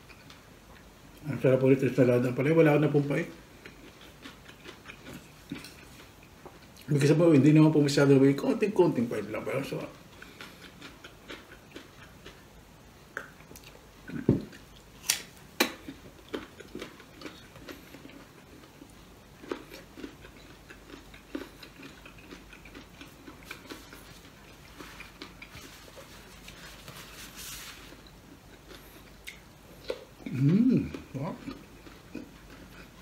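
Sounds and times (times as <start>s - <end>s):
person chewing food: 0.0s - 1.2s, 2.8s - 7.1s, 8.4s - 33.0s.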